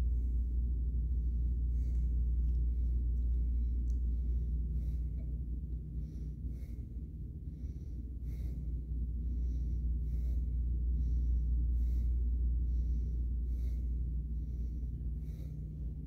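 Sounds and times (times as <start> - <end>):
steady low hum: 0.0 - 16.0
man breathing hard: 1.1 - 16.0.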